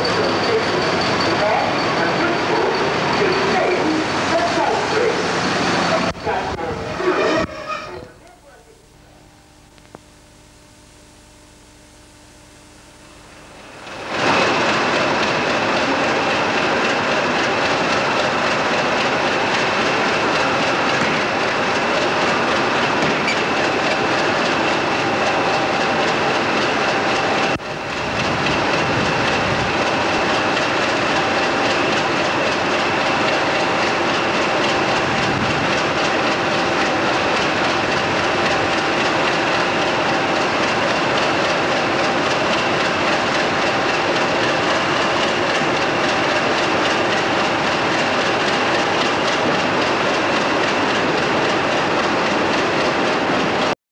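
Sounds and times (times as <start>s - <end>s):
diesel locomotive engine running: 0.0s - 10.0s, 11.2s - 53.8s
high whine: 0.0s - 53.8s.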